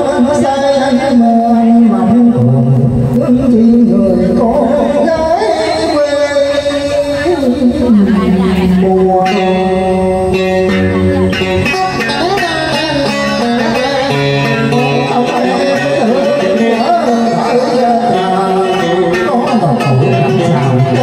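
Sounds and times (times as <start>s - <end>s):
plucked guitar with bending notes: 0.0s - 21.0s.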